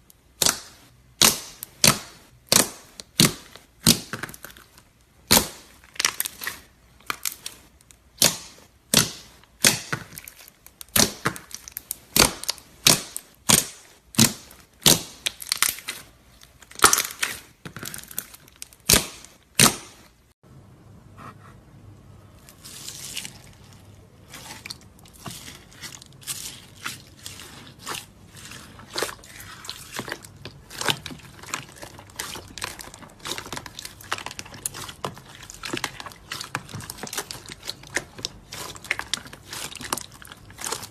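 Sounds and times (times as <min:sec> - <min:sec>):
slime popping and squishing: 0:00.2 - 0:20.1, 0:22.5 - 0:40.9.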